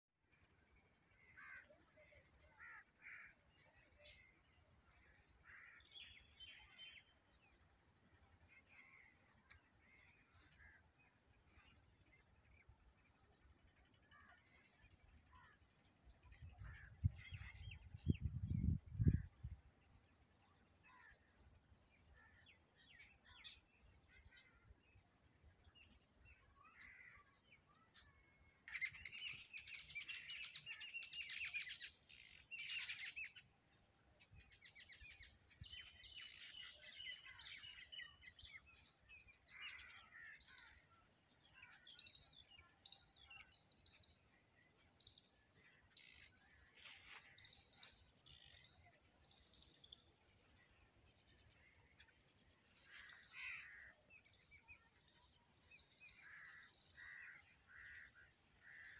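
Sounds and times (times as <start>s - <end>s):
small birds chirping: 0.3s - 58.9s.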